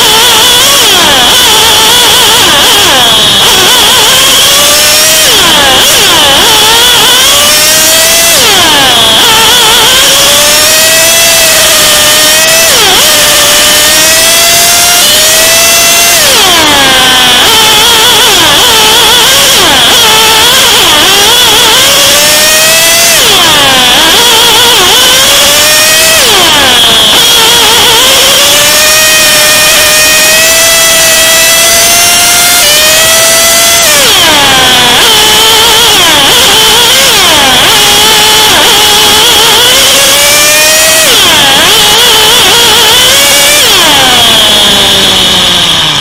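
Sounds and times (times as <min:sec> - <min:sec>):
go-kart engine revving: 0:00.0 - 0:46.0.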